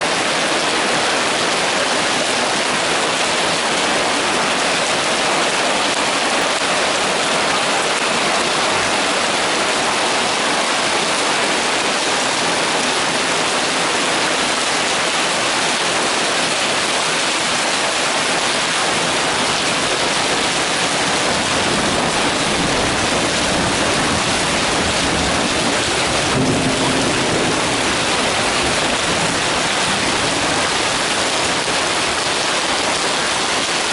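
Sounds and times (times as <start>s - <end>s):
heavy rain and hail: 0.0s - 33.9s.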